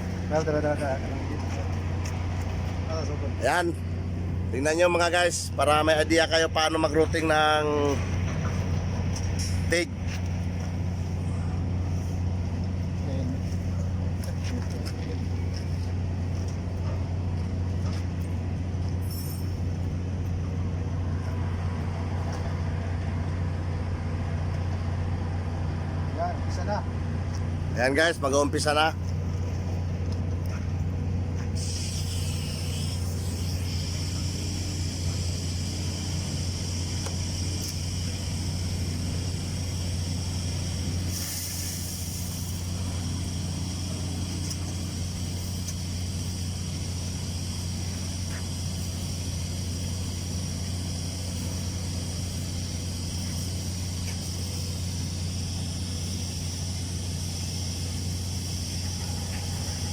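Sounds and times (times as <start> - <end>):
machinery droning: 0.0 - 59.9.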